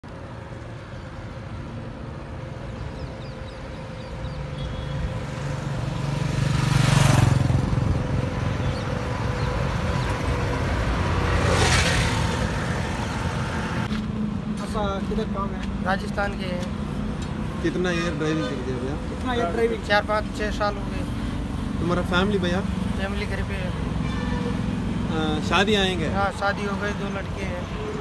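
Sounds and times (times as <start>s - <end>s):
highway traffic passing: 0.0s - 28.0s.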